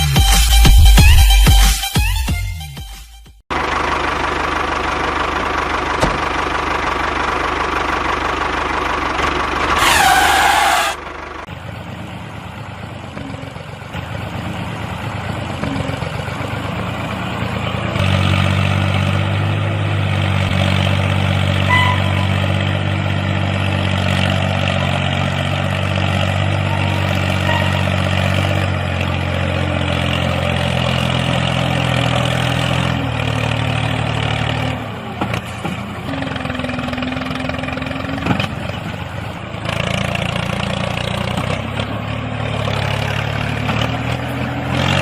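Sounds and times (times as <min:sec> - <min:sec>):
engine running steadily: 0:03.5 - 0:45.0.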